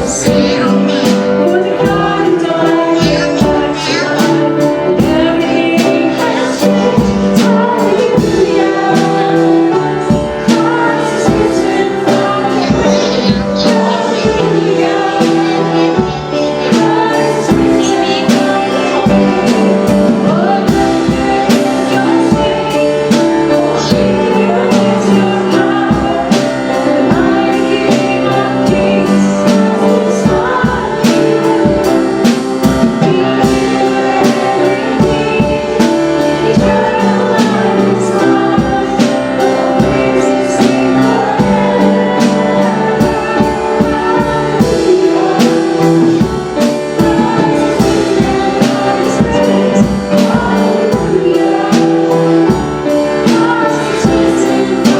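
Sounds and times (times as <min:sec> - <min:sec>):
band playing: 0:00.0 - 0:54.9
voices singing worship music: 0:00.0 - 0:54.9.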